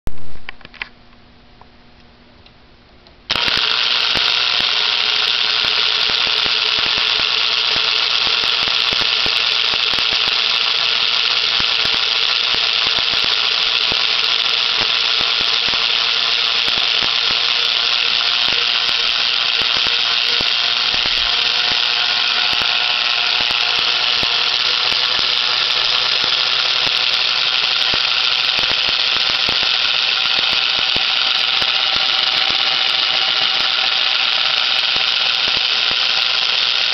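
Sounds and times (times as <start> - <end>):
fine clicking of gears: 3.3 - 36.9
toy train motor whirring: 3.3 - 36.9.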